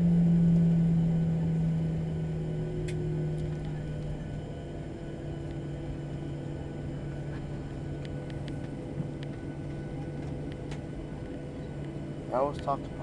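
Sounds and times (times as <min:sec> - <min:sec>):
aircraft cabin air hum: 0:00.0 - 0:13.0.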